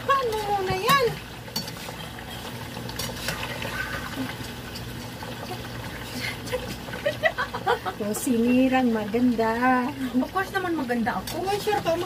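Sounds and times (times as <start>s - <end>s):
food sizzling and bubbling: 0.0s - 12.0s.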